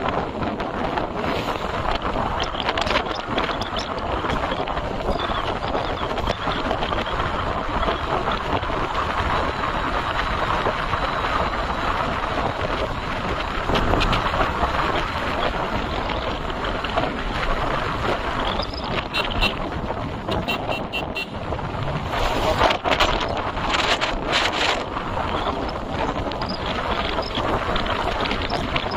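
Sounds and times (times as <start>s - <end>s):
motorcycle running: 0.0s - 28.9s
wind rushing over microphone: 0.0s - 28.9s.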